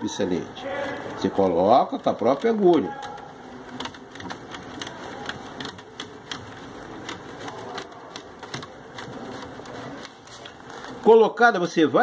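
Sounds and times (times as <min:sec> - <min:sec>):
needles clicking in chair cane: 0:00.7 - 0:11.2.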